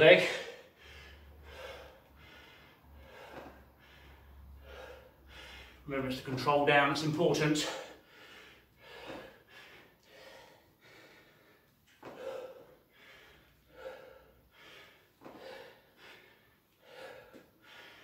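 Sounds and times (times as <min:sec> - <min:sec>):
man breathing heavily: 0:00.0 - 0:06.3, 0:07.4 - 0:18.0.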